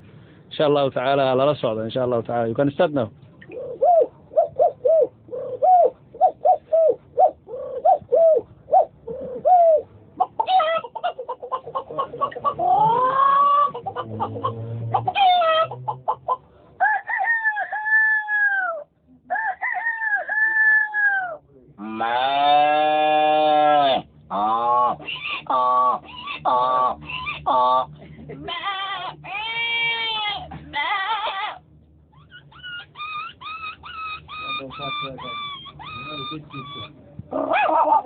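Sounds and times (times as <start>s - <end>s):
man imitating hen clucks: 3.5s - 31.6s, 32.3s - 38.0s.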